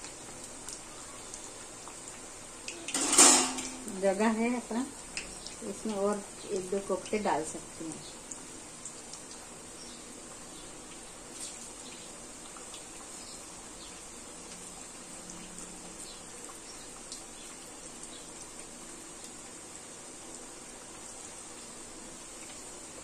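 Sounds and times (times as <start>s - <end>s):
faint crackles and pops: 0.0s - 23.0s
food deep-frying in hot oil: 0.0s - 23.0s.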